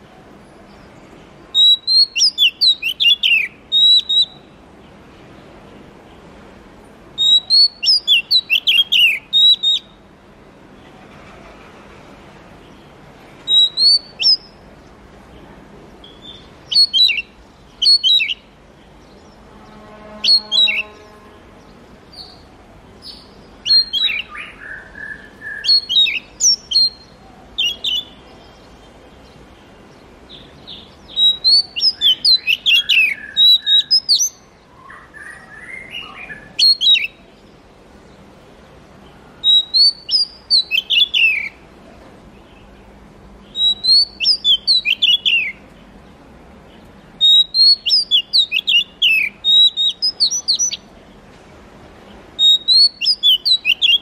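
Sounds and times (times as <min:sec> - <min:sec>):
magpie-robin singing: 0:00.7 - 0:04.9, 0:07.1 - 0:10.1, 0:12.7 - 0:15.0, 0:15.9 - 0:37.6, 0:39.0 - 0:41.7, 0:42.4 - 0:50.9, 0:52.1 - 0:54.0.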